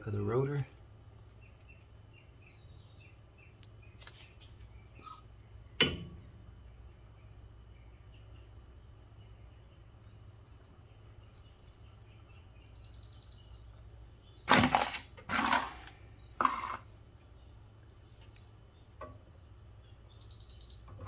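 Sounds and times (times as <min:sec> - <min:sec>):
faint bird chirp: 0:00.0 - 0:14.5, 0:16.0 - 0:21.0
steady low hum: 0:00.0 - 0:21.0.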